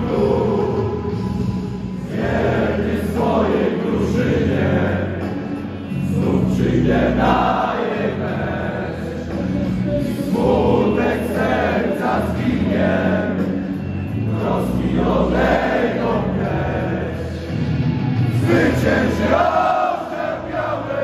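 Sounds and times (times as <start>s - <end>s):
crowd chanting in unison: 0.0s - 21.0s.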